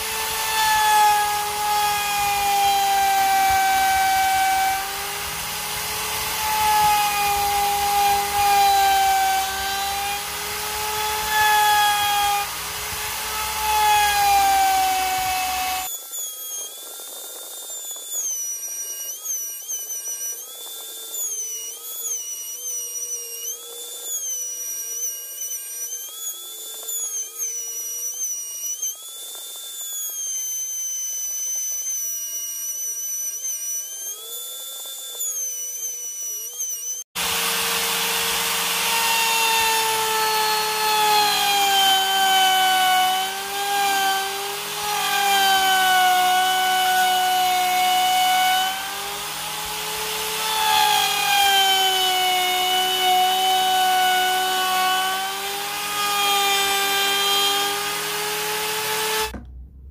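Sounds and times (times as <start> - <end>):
router cutting plywood: 0.0 - 59.9.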